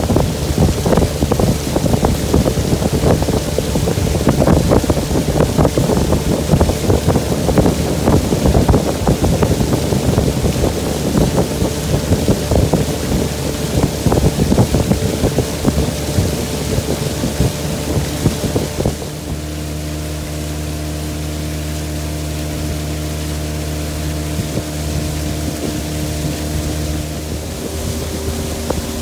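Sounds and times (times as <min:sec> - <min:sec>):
outboard motor running: 0:00.0 - 0:29.0
wind buffeting microphone: 0:00.0 - 0:29.0.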